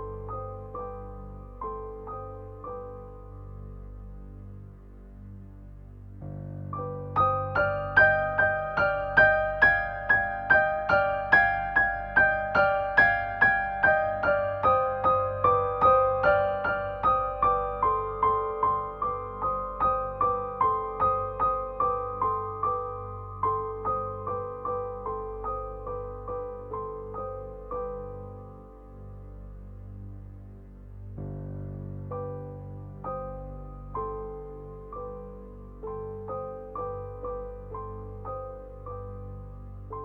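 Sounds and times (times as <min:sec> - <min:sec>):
gentle piano melody: 0:00.0 - 0:40.0.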